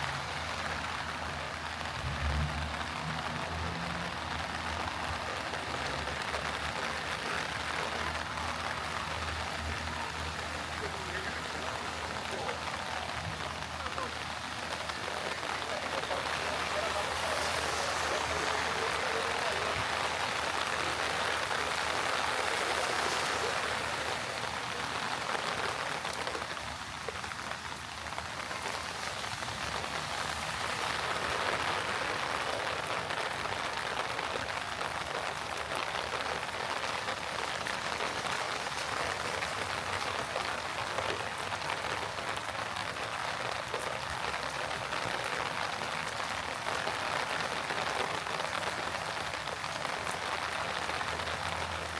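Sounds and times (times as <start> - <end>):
heavy rain on street: 0.0 - 51.9.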